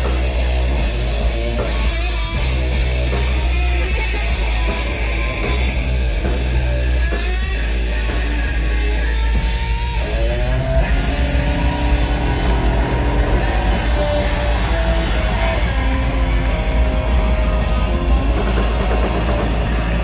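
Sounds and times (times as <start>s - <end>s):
punk rock band playing: 0.0s - 20.0s.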